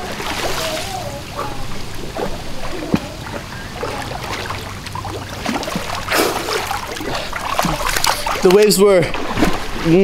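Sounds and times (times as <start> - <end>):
water splashing from swimming: 0.0 - 10.0.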